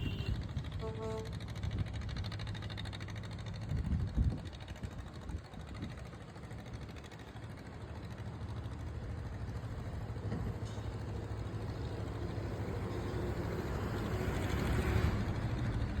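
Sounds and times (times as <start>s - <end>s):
engine humming: 0.0s - 3.7s, 5.8s - 16.0s.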